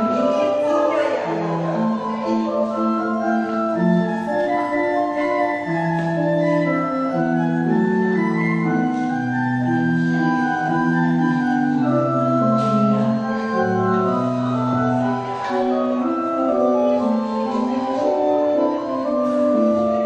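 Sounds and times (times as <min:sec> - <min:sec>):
organ playing held chords: 0:00.0 - 0:20.0.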